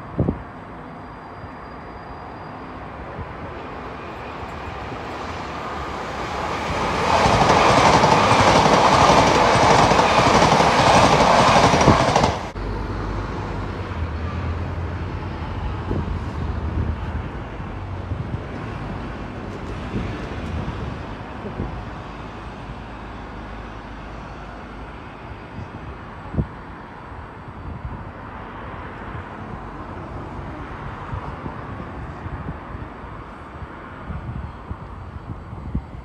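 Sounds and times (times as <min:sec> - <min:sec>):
electric train passing: 0:00.0 - 0:36.0
low train rumble: 0:00.0 - 0:36.0.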